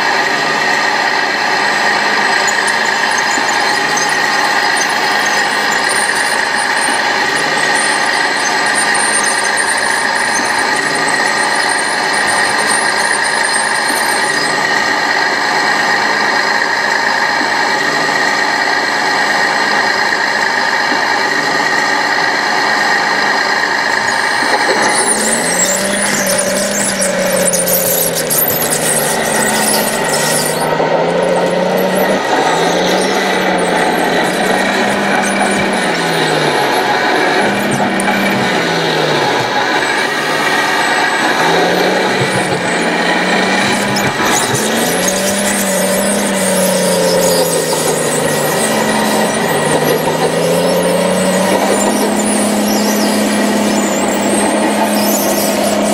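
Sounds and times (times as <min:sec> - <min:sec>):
model motor rising and falling: 0:00.0 - 0:55.9
radio-controlled models whining: 0:00.0 - 0:55.9.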